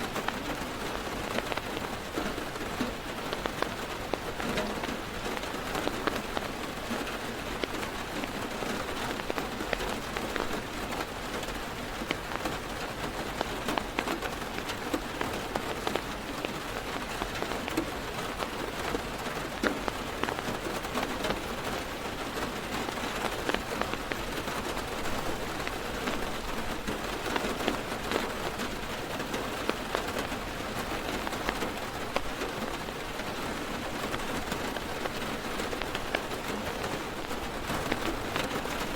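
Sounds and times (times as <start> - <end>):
heavy rain on car roof: 0.0 - 38.9.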